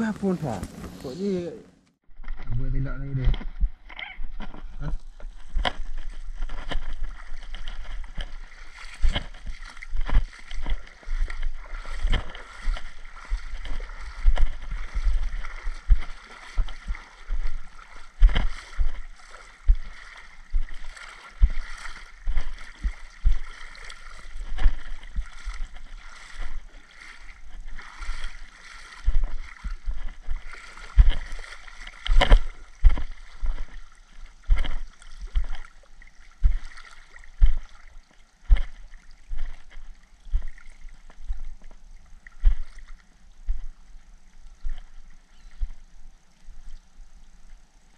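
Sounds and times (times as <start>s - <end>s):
water sloshing and splashing: 2.1s - 47.9s.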